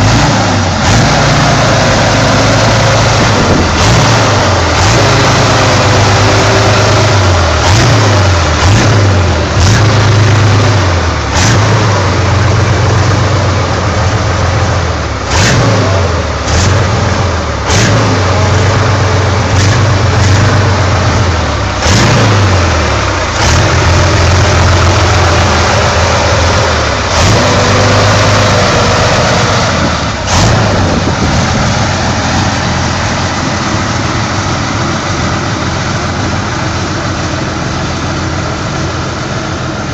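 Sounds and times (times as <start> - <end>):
motorcycle engine revving: 0.0 - 36.5
sharp exhaust cracks: 0.0 - 39.9.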